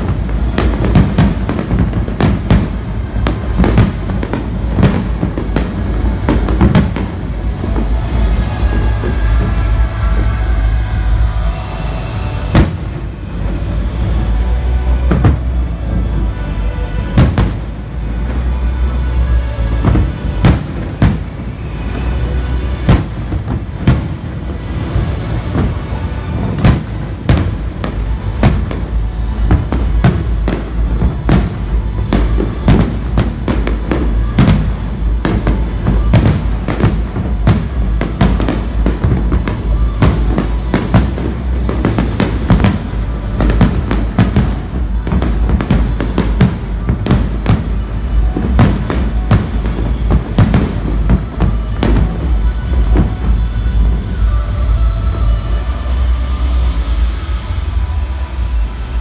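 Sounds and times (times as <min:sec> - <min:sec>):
fireworks bangs and crackles: 0:00.0 - 0:59.0
low rumble: 0:00.0 - 0:59.0.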